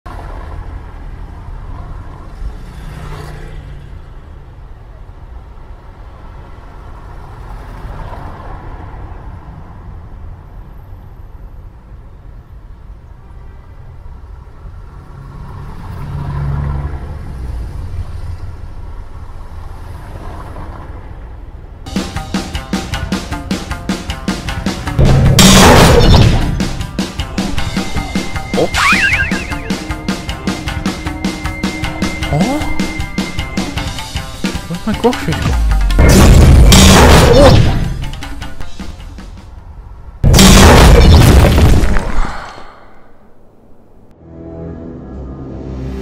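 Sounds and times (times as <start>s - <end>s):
traffic rumble: 0.1s - 21.9s, 26.0s - 44.2s.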